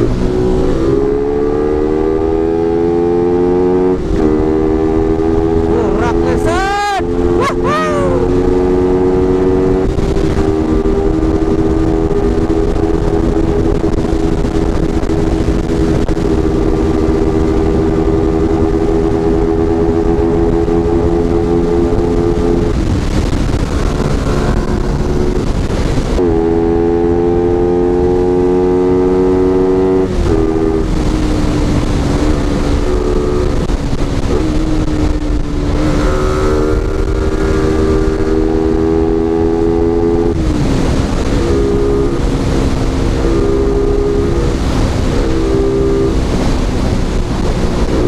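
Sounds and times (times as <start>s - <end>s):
motorcycle engine running: 0.0s - 6.2s, 7.0s - 48.0s
wind noise: 0.0s - 48.0s.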